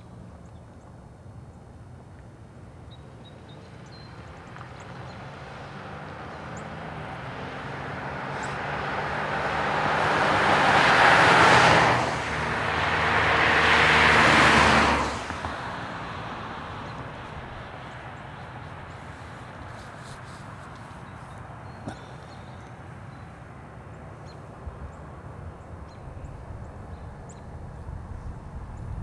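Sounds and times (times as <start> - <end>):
cars passing by: 0.1 - 29.0.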